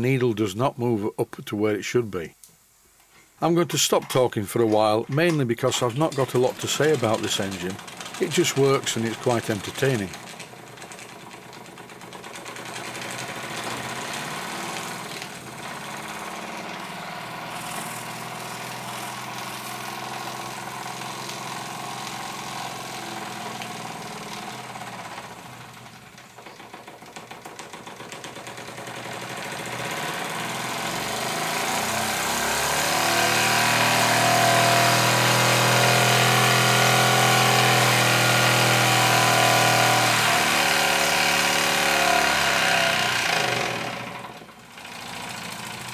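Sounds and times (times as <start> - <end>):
model steam engine running: 4.5 - 45.9.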